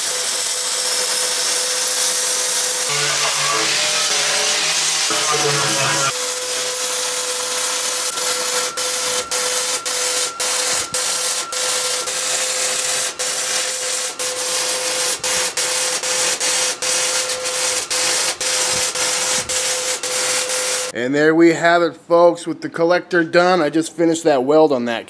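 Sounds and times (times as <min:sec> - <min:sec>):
welding arc crackling: 0:00.0 - 0:20.9.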